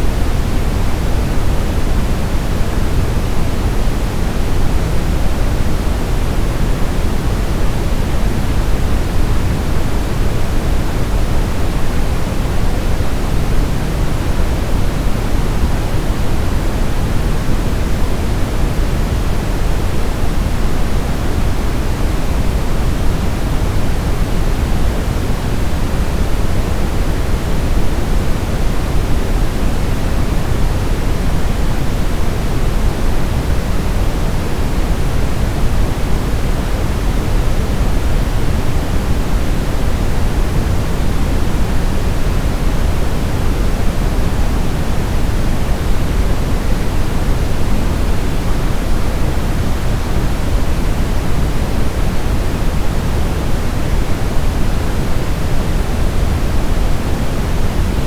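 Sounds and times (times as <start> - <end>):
steady pink noise: 0.0 - 58.0.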